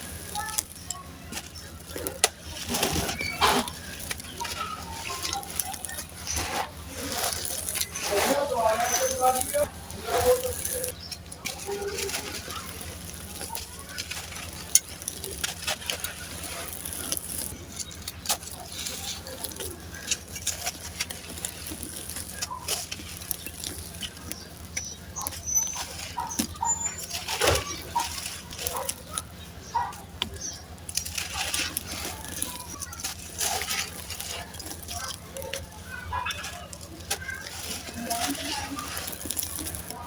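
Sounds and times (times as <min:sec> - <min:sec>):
cement chunks crumbling and crunching: 0:00.0 - 0:40.0.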